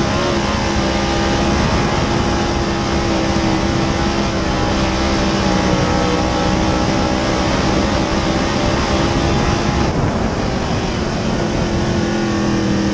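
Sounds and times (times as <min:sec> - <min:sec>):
race car engine at full throttle: 0:00.0 - 0:12.9
wind and tyre noise: 0:00.0 - 0:12.9.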